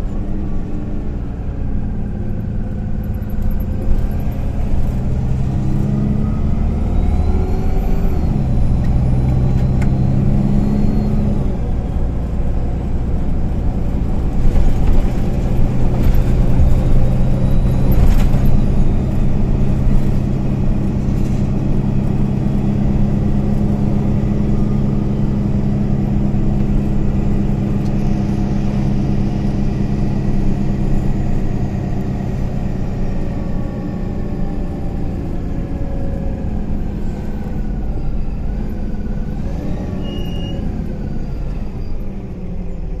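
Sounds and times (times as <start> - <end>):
bus diesel engine running: 0.0 - 43.0
road noise: 0.0 - 43.0.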